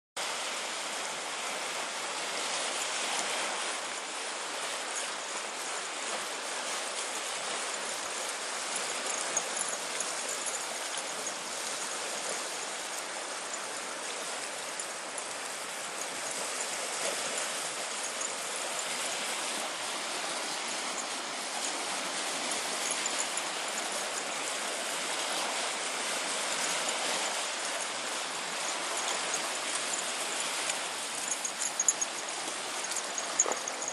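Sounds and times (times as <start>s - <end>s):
small waves washing on shore: 0.2s - 33.9s.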